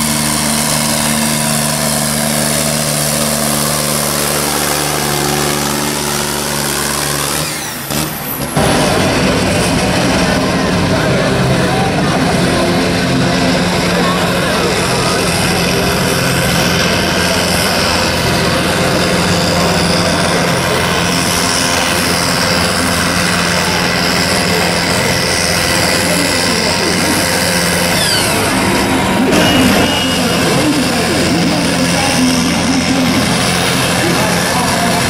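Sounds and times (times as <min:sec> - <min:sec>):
tractor diesel engine revving: 0:00.0 - 0:35.0.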